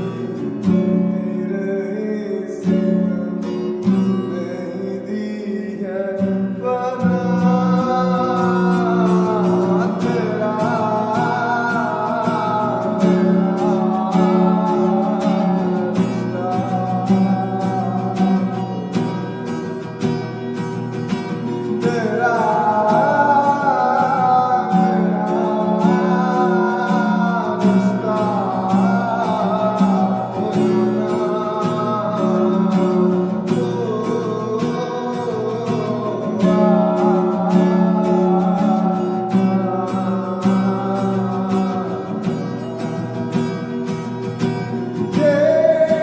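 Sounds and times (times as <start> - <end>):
film song with beat and guitar: 0.0 - 46.0
person singing melody: 0.0 - 46.0.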